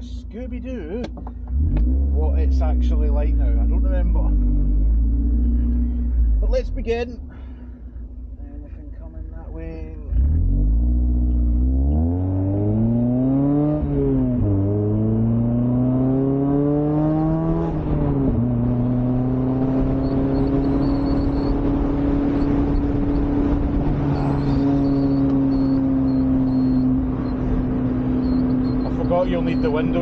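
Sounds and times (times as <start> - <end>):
car engine accelerating: 0.0 - 7.8, 9.2 - 30.0
road noise rumble: 0.0 - 30.0.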